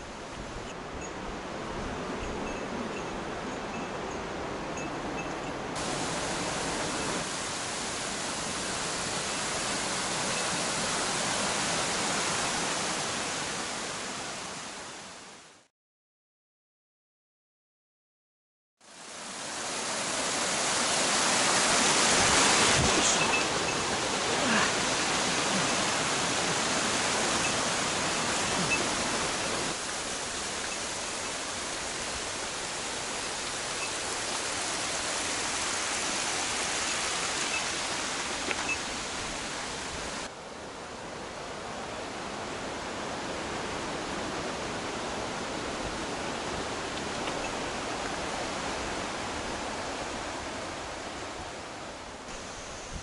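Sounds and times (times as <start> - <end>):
mountain stream rushing: 0.0 - 15.7, 18.8 - 53.0.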